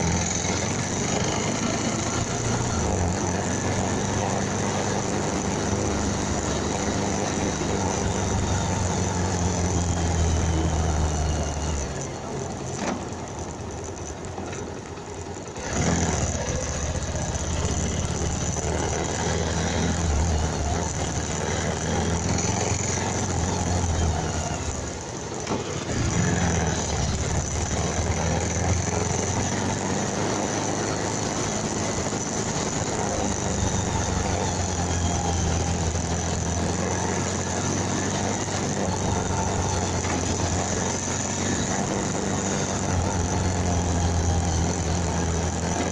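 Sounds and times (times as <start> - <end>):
motorcycle engine running: 0.0 - 45.9
road and wind noise: 0.0 - 45.9.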